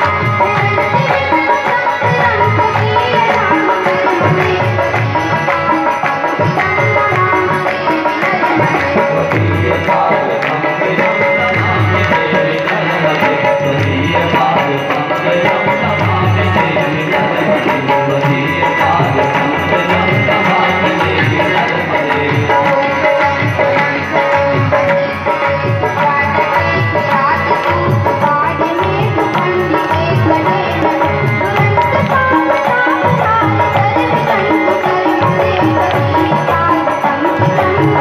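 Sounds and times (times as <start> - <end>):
tabla drumming: 0.0 - 38.0.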